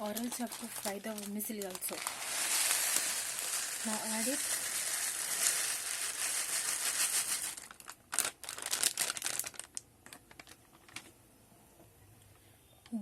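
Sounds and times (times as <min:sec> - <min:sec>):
dry crackling and rustling: 0:00.0 - 0:11.1.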